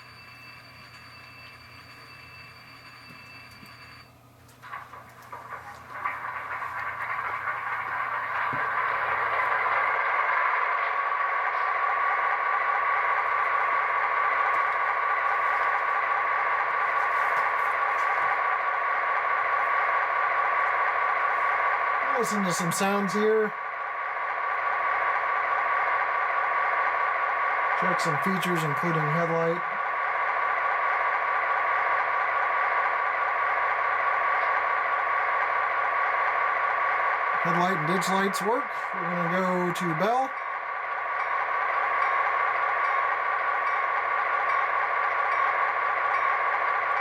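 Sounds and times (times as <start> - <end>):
diesel engine sound from small speaker: 4.7 - 46.0.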